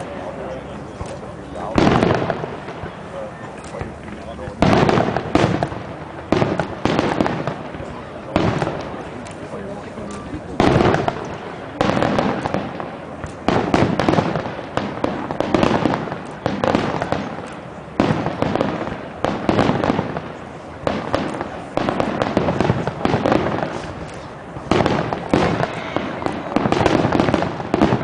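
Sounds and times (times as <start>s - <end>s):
firework pops and crackle: 0.9s - 28.0s
firework shells bursting: 3.6s - 28.0s.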